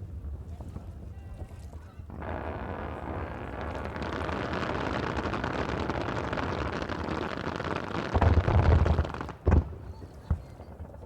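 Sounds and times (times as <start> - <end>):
fireworks crackling: 2.0 - 11.0.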